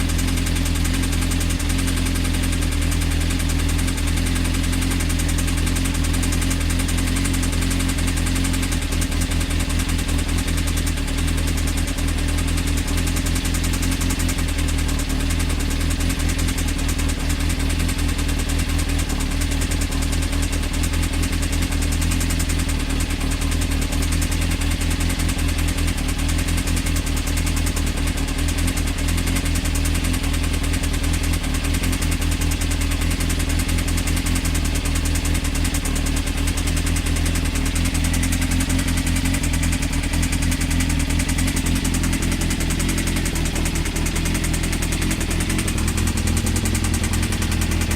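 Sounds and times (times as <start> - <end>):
motorcycle engine with rapid knock: 0.0 - 47.9.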